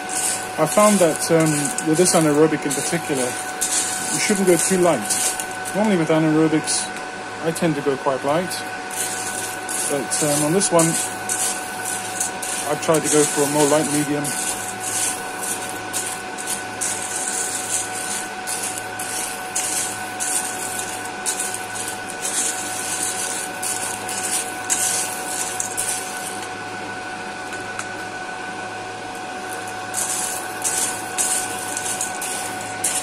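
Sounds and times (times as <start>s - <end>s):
coffee beans rustling: 0.0s - 6.8s, 8.5s - 26.5s, 29.6s - 33.0s
cooling fan whining: 0.0s - 33.0s.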